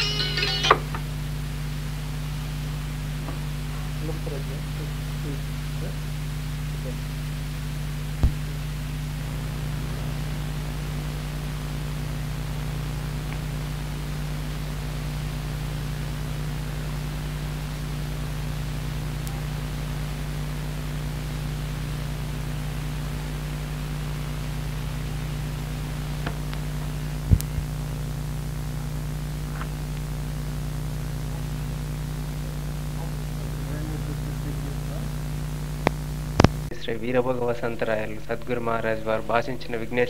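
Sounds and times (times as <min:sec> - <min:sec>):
electrical hum: 0:00.0 - 0:40.0
tape hiss: 0:00.0 - 0:40.0.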